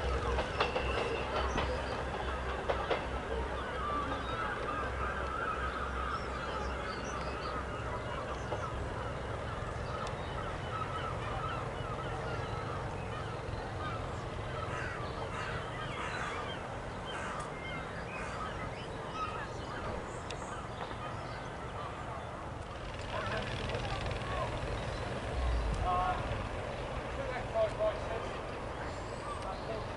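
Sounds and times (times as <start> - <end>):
birds honking and chattering: 0.0 - 29.9
diesel train rumble: 0.0 - 29.9.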